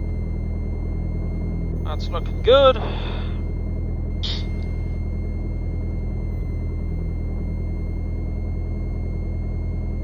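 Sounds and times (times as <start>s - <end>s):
propeller plane engine droning: 0.0s - 10.0s.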